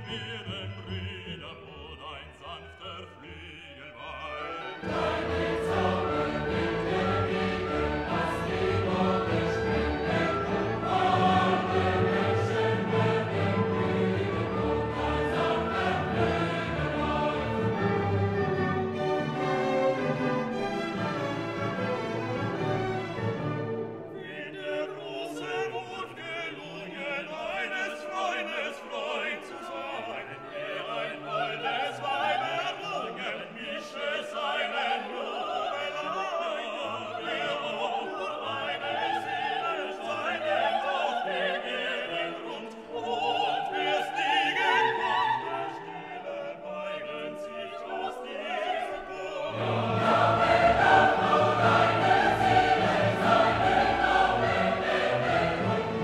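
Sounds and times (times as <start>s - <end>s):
operatic singing: 0.0s - 56.0s
orchestra playing classical music: 0.0s - 56.0s.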